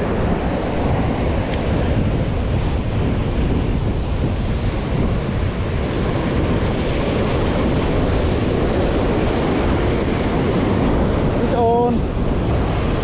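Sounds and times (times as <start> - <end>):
strong wind on microphone: 0.0 - 13.0
surf breaking on rocks: 0.0 - 13.0.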